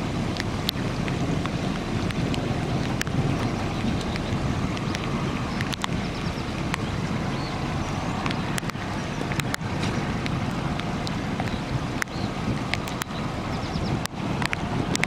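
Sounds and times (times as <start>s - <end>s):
water rushing: 0.0s - 15.0s
wind buffeting microphone: 0.0s - 15.0s.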